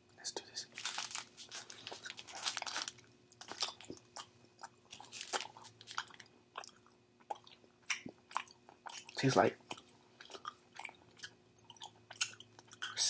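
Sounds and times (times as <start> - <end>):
person chewing candy: 0.8 - 13.0.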